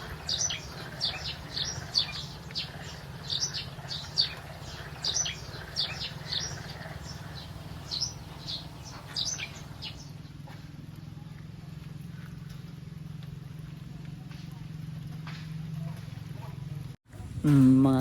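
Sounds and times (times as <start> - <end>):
small birds chirping: 0.0 - 17.0
steady low hum: 0.0 - 18.0.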